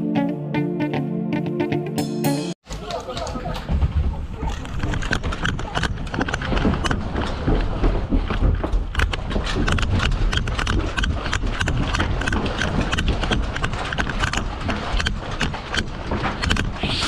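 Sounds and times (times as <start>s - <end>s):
running footsteps: 2.6s - 17.0s
rattling gear: 2.7s - 16.8s.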